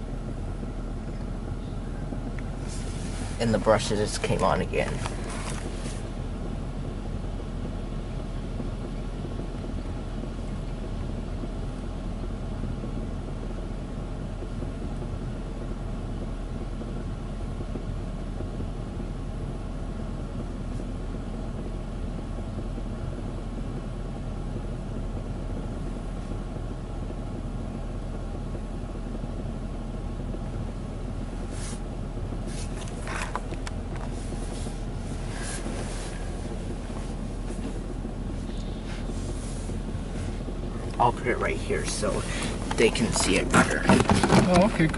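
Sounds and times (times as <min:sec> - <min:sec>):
car wash mechanical rumble: 0:00.0 - 0:44.9.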